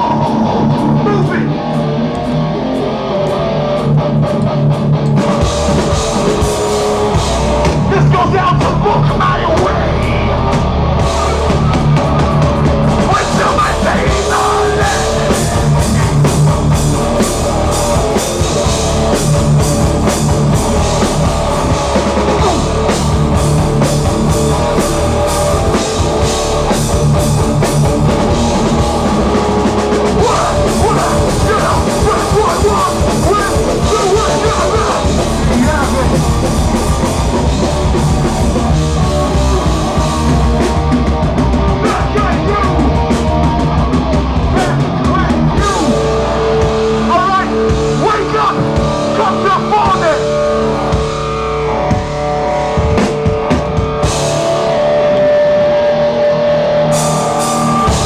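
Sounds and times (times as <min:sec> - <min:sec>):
fast drum kit: 0:00.0 - 0:55.5, 0:56.9 - 0:58.0
bass guitar: 0:00.0 - 0:58.0
distorted guitars: 0:00.0 - 0:58.0.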